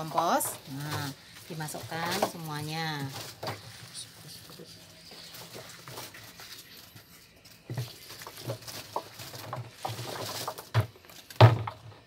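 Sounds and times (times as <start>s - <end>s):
vegetable scraps thudding and rustling: 0.0s - 4.2s, 5.0s - 12.0s.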